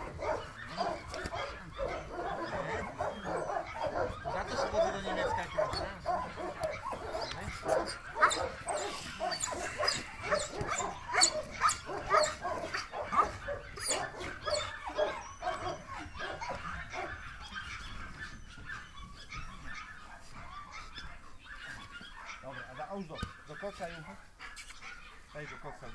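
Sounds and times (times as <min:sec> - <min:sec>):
dog barking: 0:00.0 - 0:25.9.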